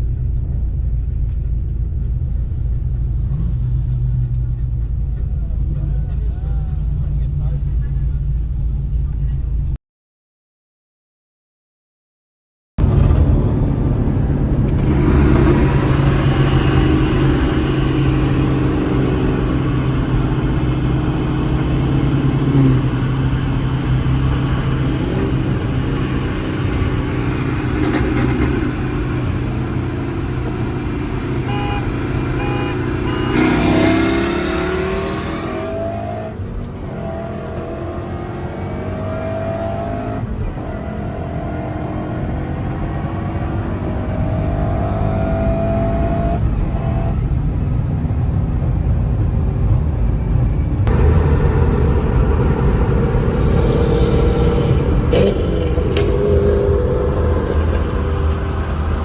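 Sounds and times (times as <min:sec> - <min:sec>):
car engine accelerating: 0:00.0 - 0:09.4, 0:12.8 - 0:59.0.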